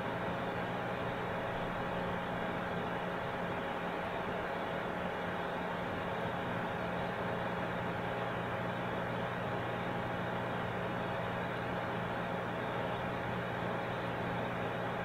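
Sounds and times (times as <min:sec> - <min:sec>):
computer cooling fan and pump whir: 0:00.0 - 0:15.0.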